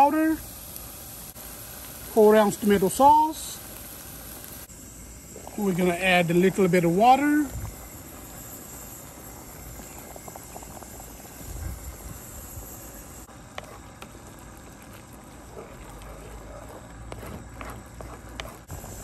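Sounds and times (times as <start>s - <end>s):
gravy sizzling in a frying pan: 0.0s - 19.0s.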